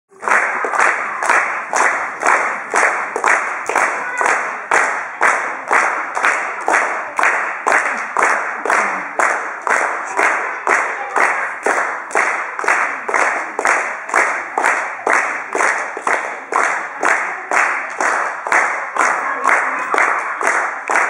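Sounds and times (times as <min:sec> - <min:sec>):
audience clapping in time: 0:00.1 - 0:21.0.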